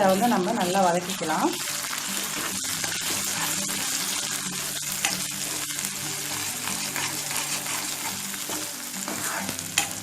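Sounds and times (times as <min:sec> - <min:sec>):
paste sizzling in oil: 0:00.0 - 0:10.0
spoon scraping pan: 0:00.9 - 0:10.0.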